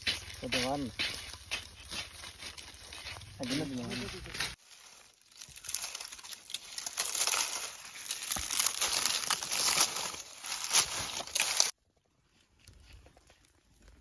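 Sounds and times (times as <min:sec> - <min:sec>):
dry palm leaves rustling: 0:00.0 - 0:14.0.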